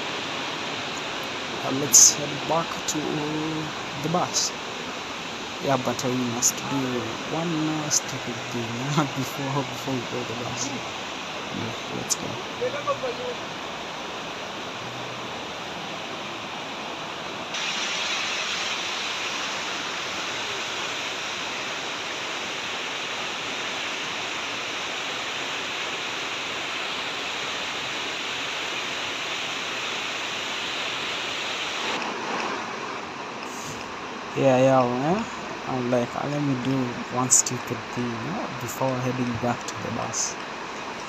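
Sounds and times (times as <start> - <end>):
river water rushing: 0.0 - 35.9, 36.5 - 41.0.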